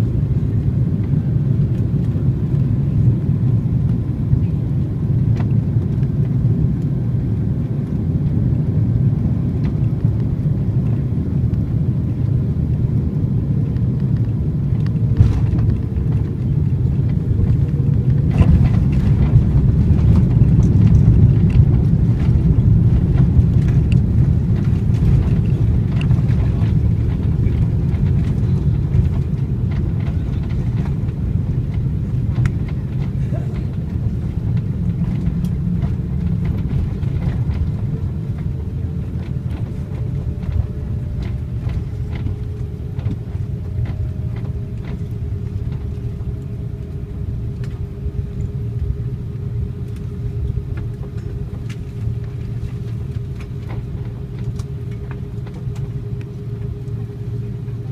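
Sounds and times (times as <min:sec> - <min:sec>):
airplane cabin rumble: 0:00.0 - 0:57.9.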